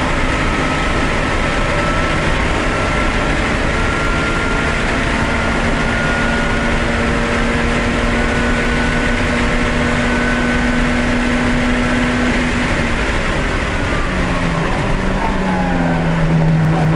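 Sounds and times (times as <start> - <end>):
race car engine at high revs: 0.0 - 16.9
wind and road noise: 0.0 - 16.9.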